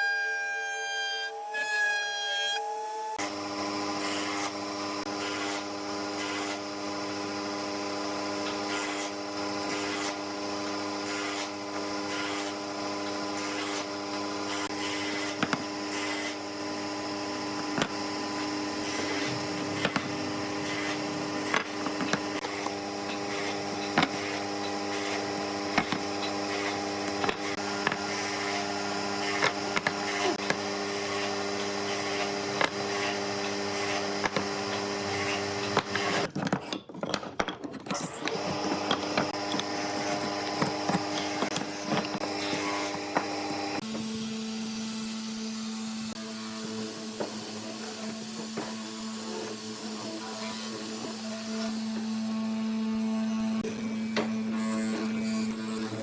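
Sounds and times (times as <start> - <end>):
power tool humming: 2.6 - 36.3, 38.0 - 56.0.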